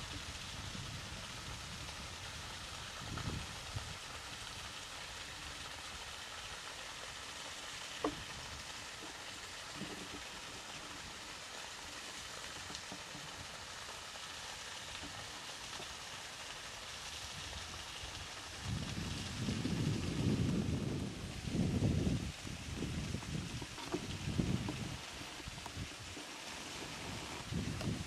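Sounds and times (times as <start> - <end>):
outdoor ambient hiss: 0.0 - 28.0.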